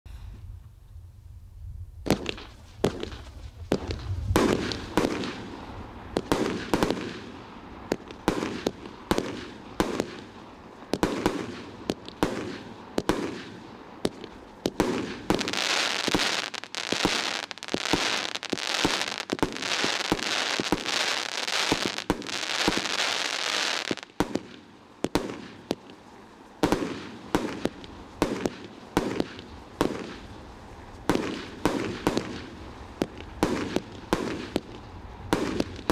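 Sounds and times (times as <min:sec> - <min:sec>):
dense firework crackling: 0:02.0 - 0:35.9
fireworks sharp bangs: 0:02.0 - 0:35.9.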